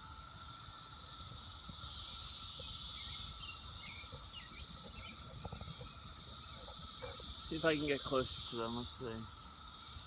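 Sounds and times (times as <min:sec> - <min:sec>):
cicadas buzzing in chorus: 0:00.0 - 0:10.0.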